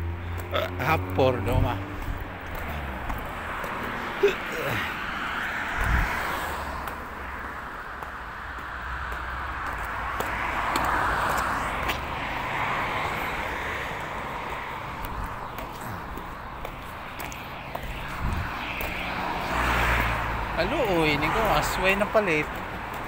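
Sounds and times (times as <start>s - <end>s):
distant vehicle rushing: 0.0s - 23.0s.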